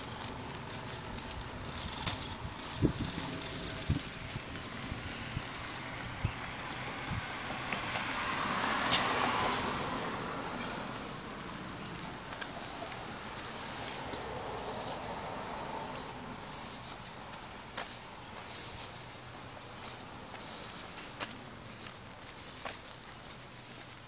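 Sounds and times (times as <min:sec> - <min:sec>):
soft footsteps on concrete: 0:00.0 - 0:24.0
vehicle passing on road: 0:00.0 - 0:24.0.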